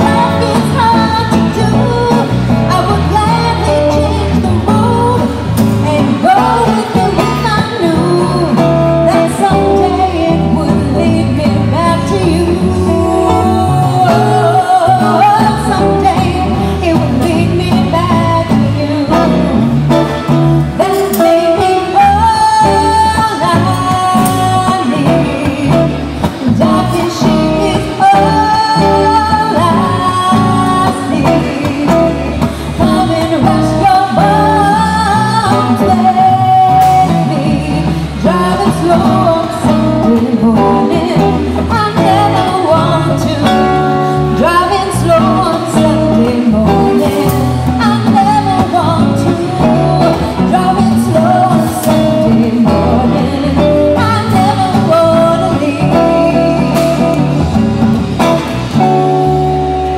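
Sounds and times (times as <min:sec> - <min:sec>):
acoustic guitar strummed and picked: 0:00.0 - 0:59.9
woman singing jazz: 0:00.0 - 0:59.9.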